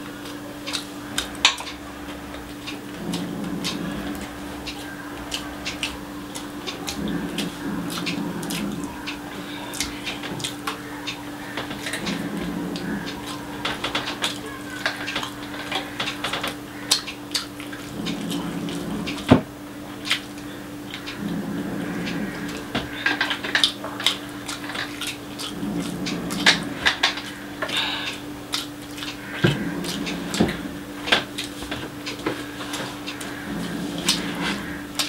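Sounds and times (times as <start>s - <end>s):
fingers working rice on plate: 0.0s - 35.0s
steady low hum: 0.0s - 35.0s
mouth clicks: 0.2s - 35.0s
wet chewing and lip-smacking: 0.2s - 35.0s.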